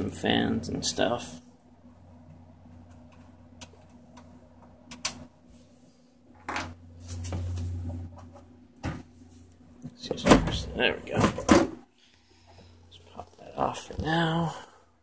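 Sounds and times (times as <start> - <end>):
computer fans humming: 0.0 - 15.0.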